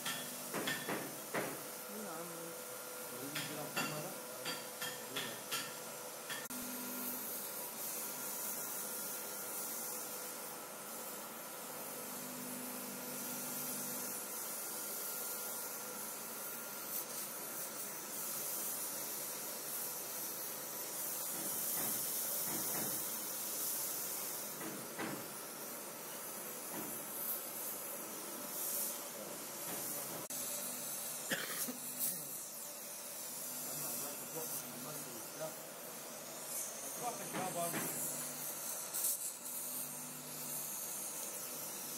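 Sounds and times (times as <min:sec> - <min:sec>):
torch flame hissing: 0:00.0 - 0:41.9.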